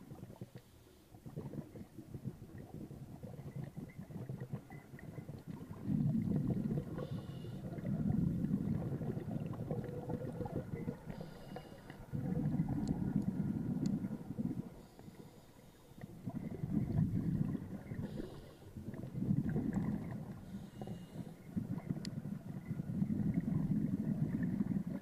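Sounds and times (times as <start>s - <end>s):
underwater bubbling rumble: 0.0s - 25.0s.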